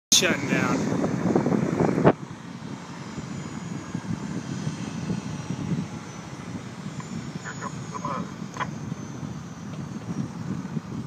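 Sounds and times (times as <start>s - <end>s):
airplane engine drone: 0.1s - 11.0s.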